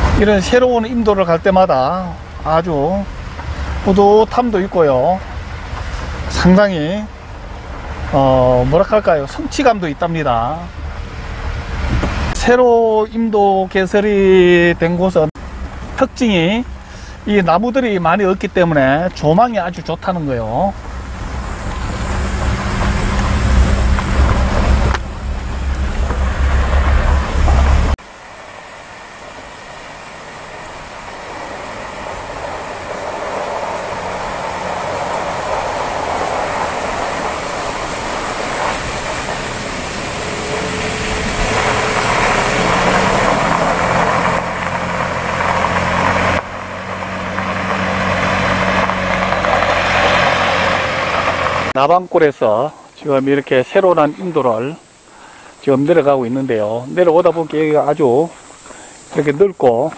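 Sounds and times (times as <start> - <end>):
vehicle engine on unpaved road: 0.0 - 52.5.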